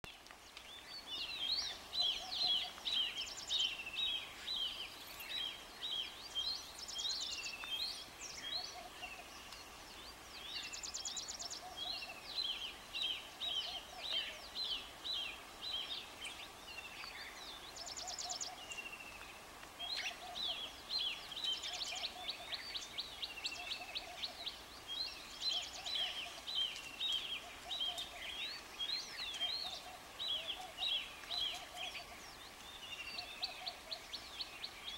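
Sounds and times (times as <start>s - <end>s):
wild birds singing: 0.0s - 34.9s.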